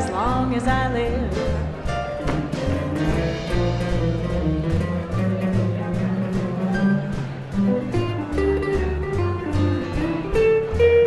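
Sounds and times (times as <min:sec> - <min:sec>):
swing jazz band: 0:00.0 - 0:11.0.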